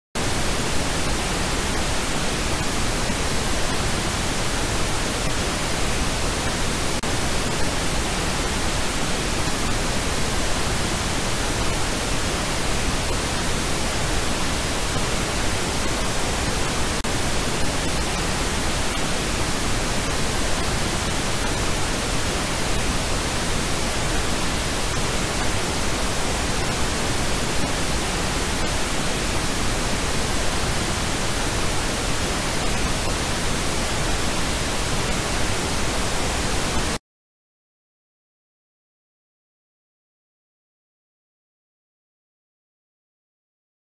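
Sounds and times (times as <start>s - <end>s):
steady electronic noise hiss: 0.2s - 37.0s.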